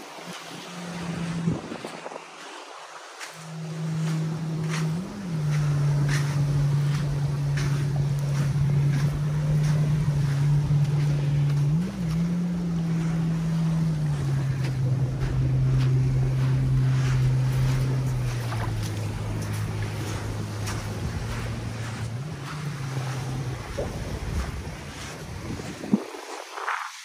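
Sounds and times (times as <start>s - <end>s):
motorboat engine running: 0.0s - 26.9s
surf hiss: 0.0s - 27.0s
wind: 0.0s - 27.0s.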